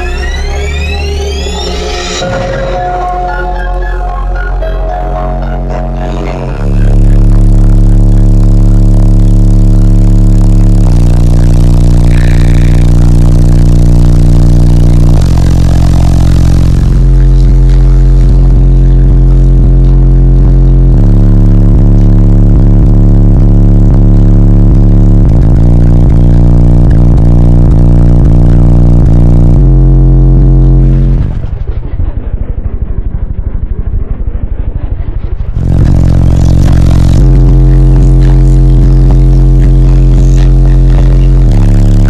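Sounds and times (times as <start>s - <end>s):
loud bass-heavy song in a car: 0.0s - 31.8s, 35.0s - 42.0s.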